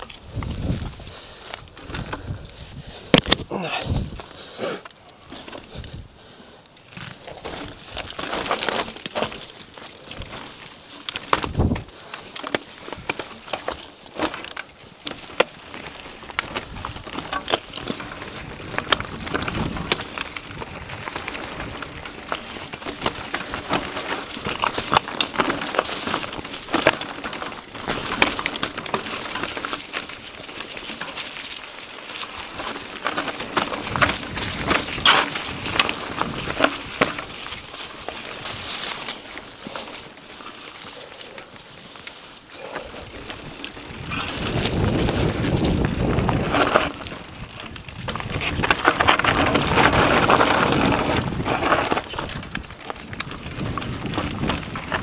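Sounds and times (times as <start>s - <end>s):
rocks clicking and knocking: 0.0s - 6.0s, 6.8s - 55.0s
bike rattling: 0.0s - 55.0s
bike tyres crunching over stones: 0.0s - 55.0s.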